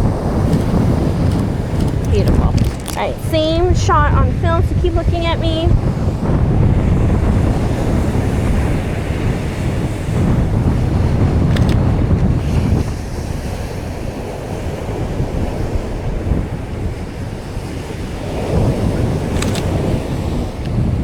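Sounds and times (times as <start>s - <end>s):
surf breaking on beach: 0.0s - 21.0s
wind buffeting microphone: 0.0s - 21.0s.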